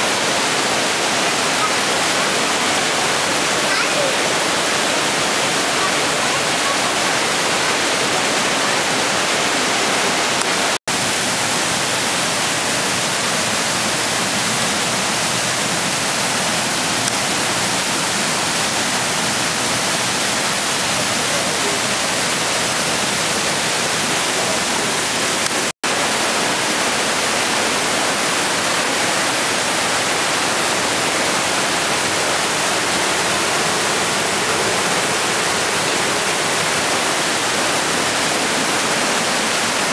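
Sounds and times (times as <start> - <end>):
mountain torrent roaring: 0.0 - 39.9.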